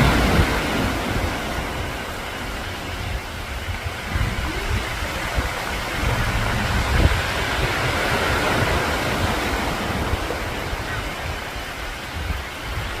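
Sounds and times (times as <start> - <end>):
steady rain hiss: 0.0 - 13.0
low rumble: 1.0 - 11.4.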